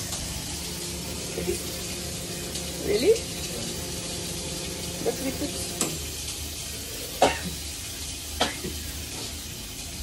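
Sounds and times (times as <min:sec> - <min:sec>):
food sizzling in a pan: 0:00.0 - 0:10.0.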